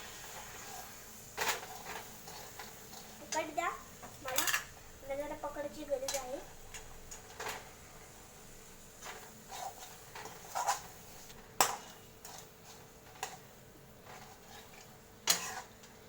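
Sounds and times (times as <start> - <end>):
utensil scraping cooking pan: 0.0 - 16.0.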